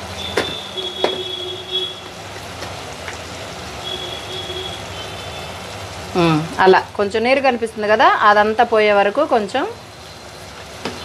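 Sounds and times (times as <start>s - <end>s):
chicken sizzling in oil: 0.0s - 11.0s
oil popping and crackling: 0.0s - 11.0s.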